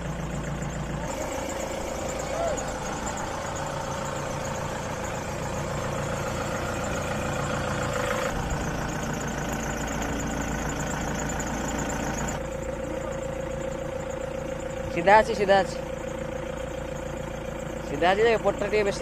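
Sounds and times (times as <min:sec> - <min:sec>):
diesel engine running: 0:00.0 - 0:19.0
steady whine: 0:00.0 - 0:19.0.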